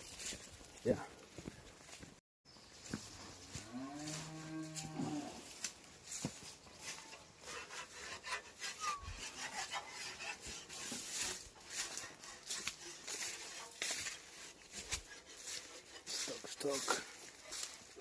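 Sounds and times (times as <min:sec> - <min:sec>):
grass rustling and scraping: 0:00.0 - 0:18.0.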